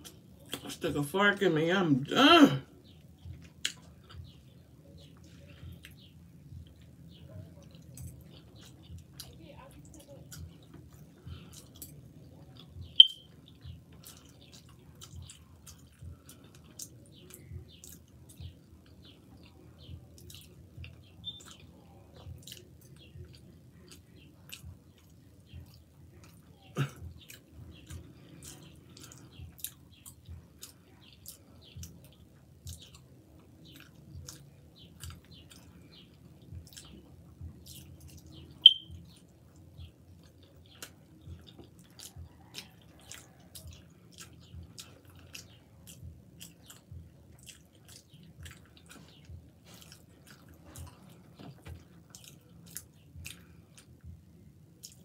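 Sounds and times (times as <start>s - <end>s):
person chewing: 2.8s - 9.4s, 10.2s - 55.0s.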